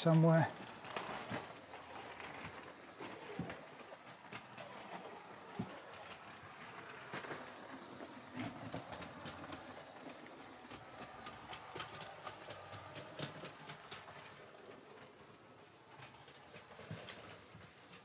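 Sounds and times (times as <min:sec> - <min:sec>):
wheels clicking over plastic track: 0:00.0 - 0:18.0.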